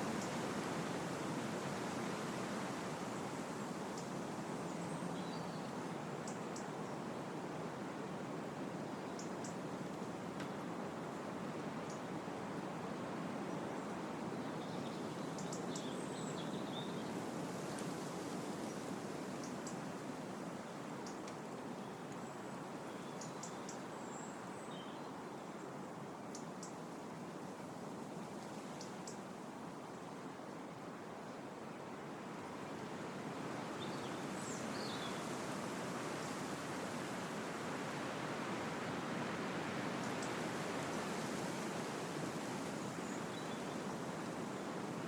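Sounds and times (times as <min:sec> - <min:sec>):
wind rushing through leaves: 0:00.0 - 0:45.0.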